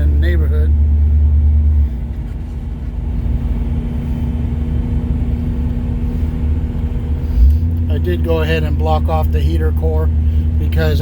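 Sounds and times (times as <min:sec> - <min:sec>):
car engine and road rumble: 0:00.0 - 0:11.0
steady hum: 0:00.0 - 0:11.0.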